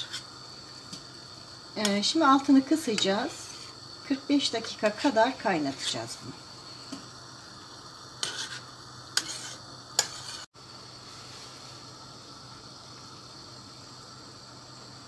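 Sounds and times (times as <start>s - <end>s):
liquid boiling in a pot: 0.0s - 15.0s.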